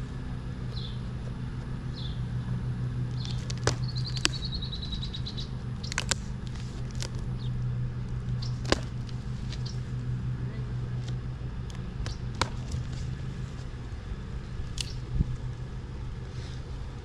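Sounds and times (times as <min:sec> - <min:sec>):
steady low hum: 0:00.0 - 0:17.0
birds chirping: 0:00.6 - 0:01.2, 0:01.8 - 0:17.0.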